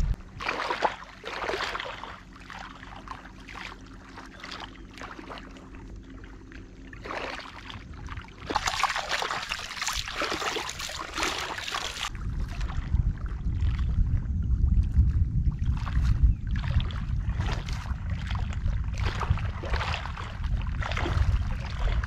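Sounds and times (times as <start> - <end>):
faint low hum: 0.0 - 22.0
water splashing and trickling: 0.0 - 22.0.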